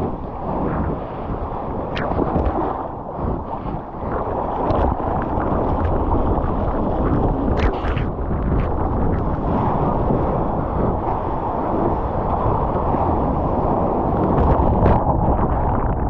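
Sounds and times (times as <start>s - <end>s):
water rushing: 0.0s - 15.8s
wind buffeting microphone: 0.0s - 16.0s.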